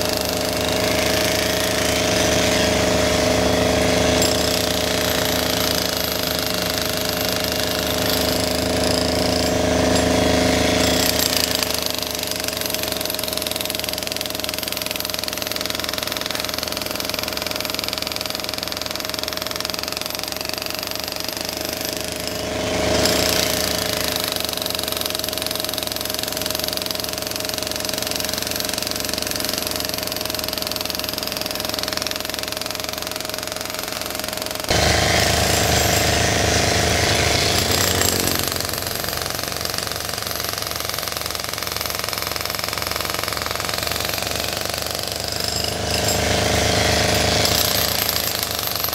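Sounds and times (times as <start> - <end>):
demolition hammer breaking asphalt: 0.0 - 48.9.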